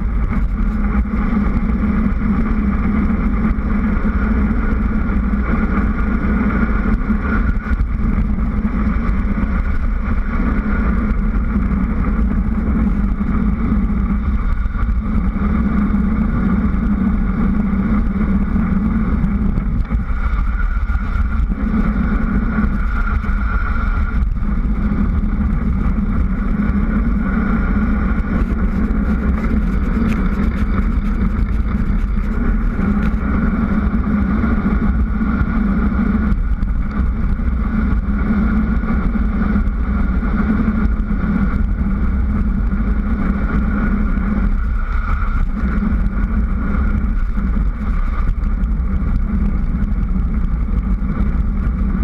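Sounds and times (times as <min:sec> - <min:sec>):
bike tyres humming on asphalt: 0:00.0 - 0:52.0
rushing wind: 0:00.0 - 0:52.0.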